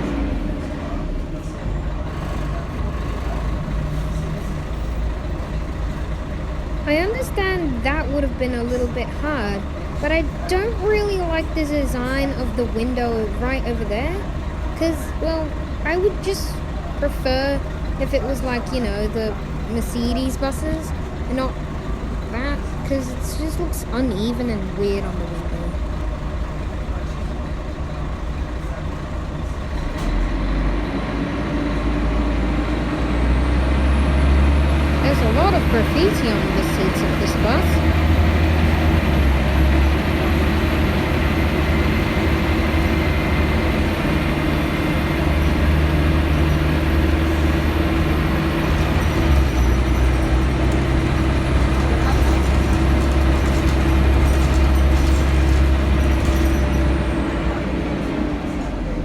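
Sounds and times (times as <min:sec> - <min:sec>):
bus diesel engine droning: 0:00.0 - 0:59.0
road noise: 0:00.0 - 0:59.0.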